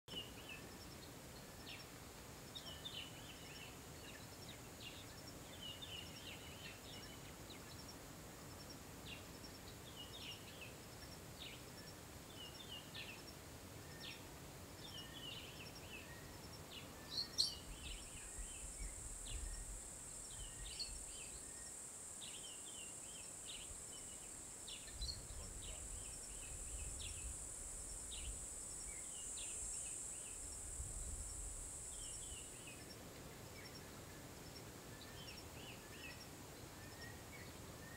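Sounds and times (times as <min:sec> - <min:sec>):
small birds chirping: 0:00.1 - 0:08.0, 0:09.1 - 0:37.9
high insect drone: 0:00.1 - 0:37.9.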